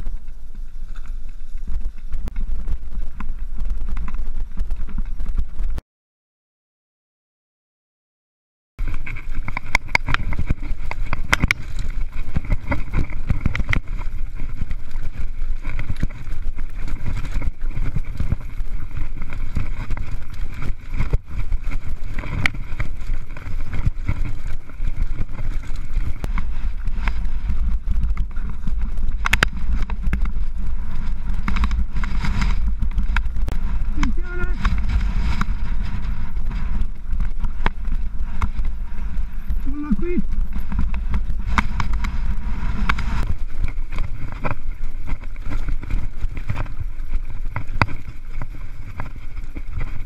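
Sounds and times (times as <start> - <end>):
bike clattering over stones: 0.0 - 5.7, 8.8 - 50.0
wind rumble on microphone: 0.0 - 5.8, 8.8 - 50.0.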